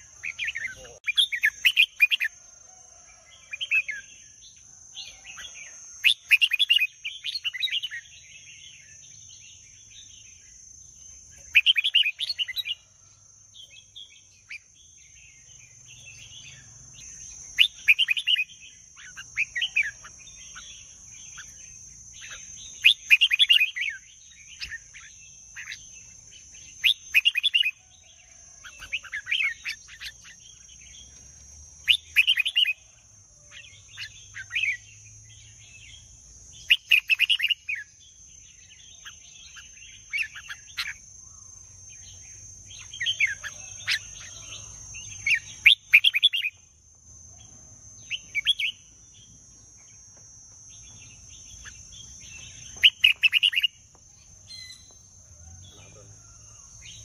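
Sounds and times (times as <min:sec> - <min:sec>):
steady high-pitched whine: 0:00.0 - 0:57.0.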